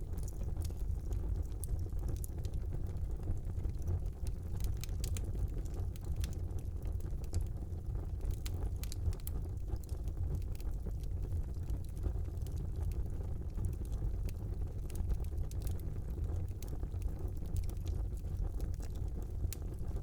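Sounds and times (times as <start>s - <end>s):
burning logs crackling: 0.0s - 20.0s
low rumble of flames: 0.0s - 20.0s.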